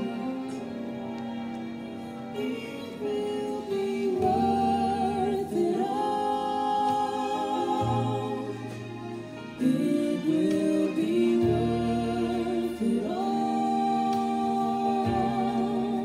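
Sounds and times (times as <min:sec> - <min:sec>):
voices singing held notes: 0:00.0 - 0:16.0.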